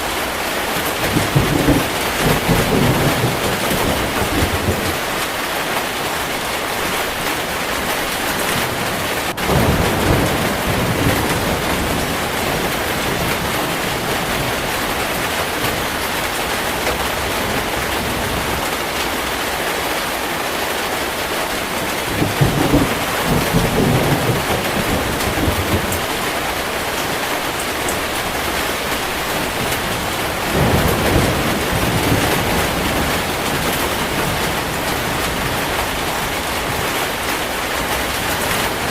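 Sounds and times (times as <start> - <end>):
heavy rain: 0.0 - 38.9
thunder rumbling: 0.7 - 5.4, 7.1 - 19.6, 21.1 - 38.9.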